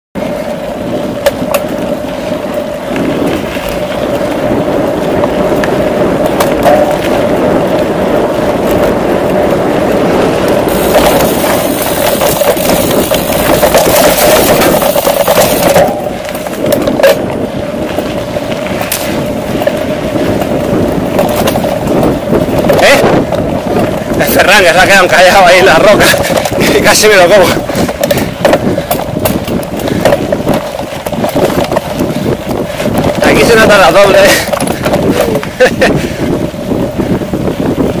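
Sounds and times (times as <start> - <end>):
bike rattling and knocking: 0.2 - 38.0
bike tyres rolling over dirt: 0.2 - 38.0.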